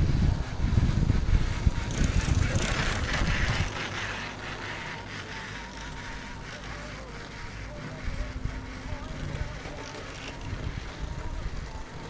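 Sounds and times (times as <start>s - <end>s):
chairlift low hum: 0.0s - 12.0s
thin wavering whine: 0.0s - 12.0s.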